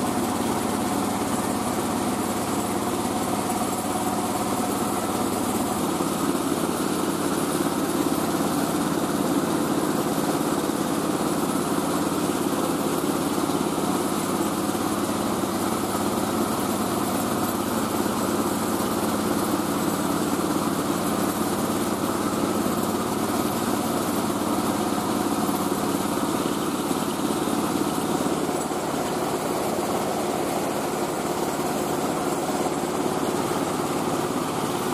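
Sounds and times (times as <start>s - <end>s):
rice milling machine running: 0.0s - 34.9s.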